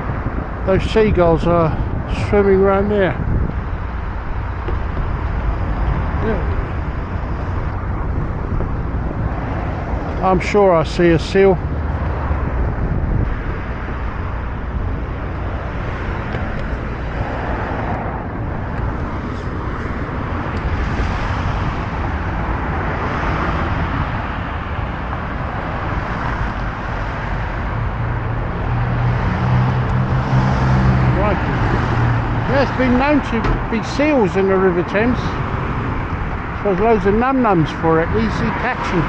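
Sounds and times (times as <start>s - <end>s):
road traffic passing: 0.0s - 39.0s
vehicle engine hum: 0.0s - 39.0s.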